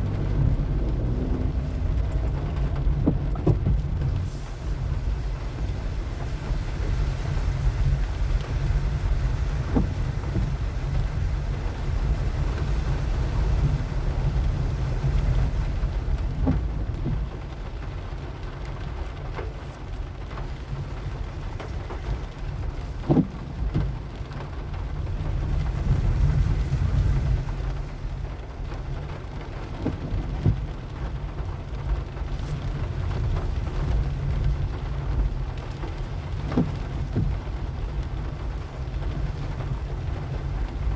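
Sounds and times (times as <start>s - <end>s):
car engine and tyre rumble: 0.0s - 40.9s
rain on car: 0.0s - 40.9s.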